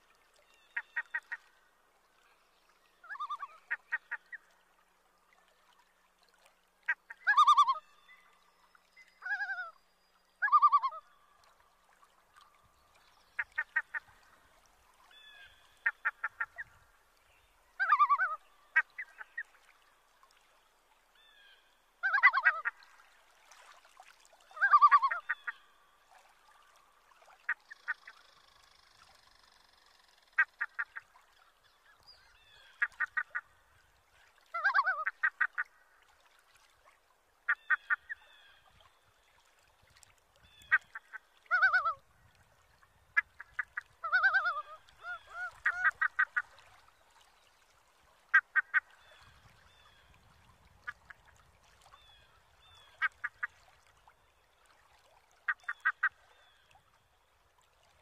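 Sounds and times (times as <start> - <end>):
waterbirds calling: 0.1 - 58.0.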